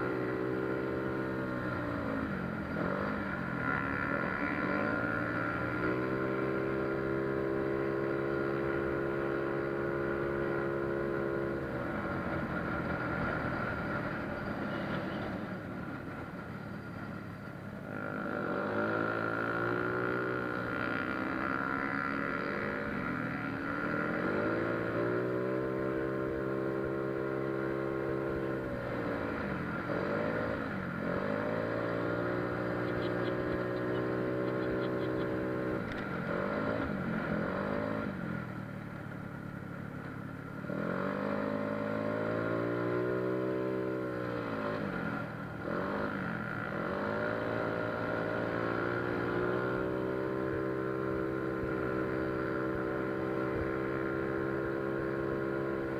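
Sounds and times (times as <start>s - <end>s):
scooter engine revving: 0.0s - 16.4s, 17.9s - 55.9s.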